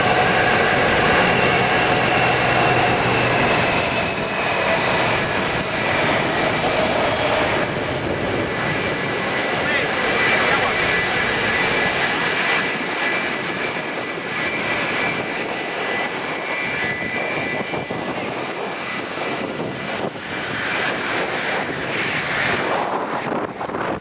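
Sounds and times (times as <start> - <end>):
high jet whine: 0.0 - 24.0
jet engines roaring: 0.0 - 24.0.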